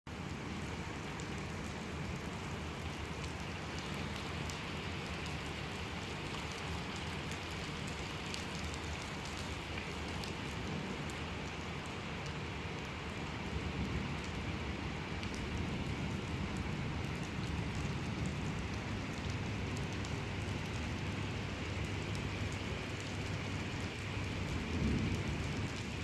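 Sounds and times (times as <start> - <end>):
heavy rain on hard surfaces: 0.1 - 26.0.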